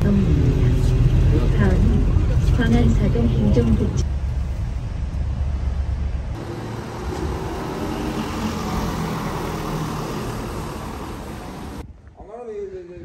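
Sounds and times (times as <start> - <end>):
bus interior rumble: 0.0 - 11.8
minibus driving past: 0.0 - 11.8
city road traffic: 0.0 - 11.9.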